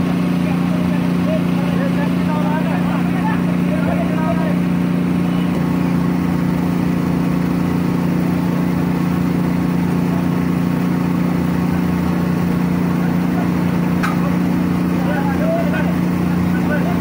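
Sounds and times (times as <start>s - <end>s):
hydraulic pump humming: 0.0s - 17.0s.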